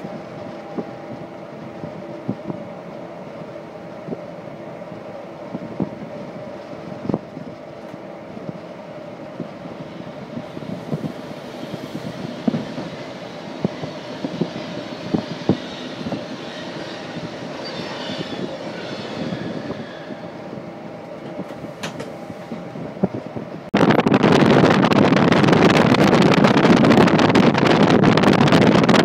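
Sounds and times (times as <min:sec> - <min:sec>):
passing train rushing: 0:00.0 - 0:29.0
train wheels rumbling on rail: 0:00.0 - 0:29.0.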